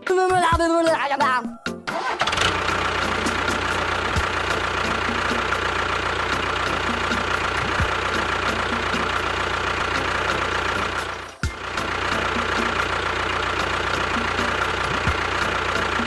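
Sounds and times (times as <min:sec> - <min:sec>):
small engine idling with knock: 0:02.0 - 0:16.0.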